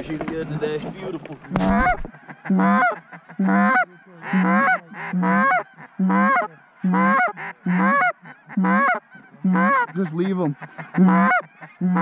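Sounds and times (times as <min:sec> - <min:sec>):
goose call honks: 0:01.4 - 0:12.0.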